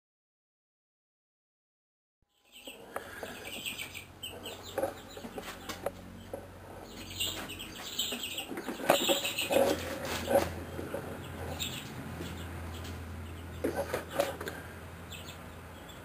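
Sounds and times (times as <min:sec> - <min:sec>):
birds calling: 0:02.3 - 0:16.0
low steady hum: 0:02.3 - 0:16.0.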